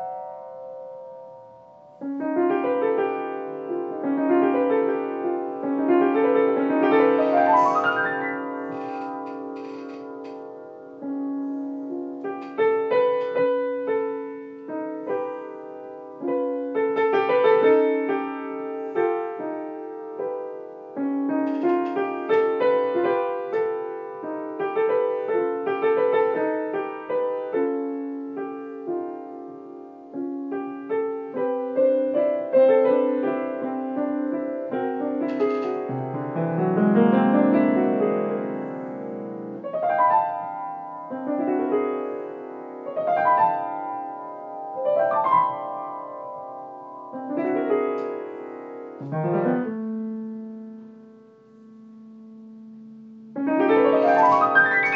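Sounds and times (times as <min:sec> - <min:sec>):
piano improvising: 0:00.0 - 0:54.9.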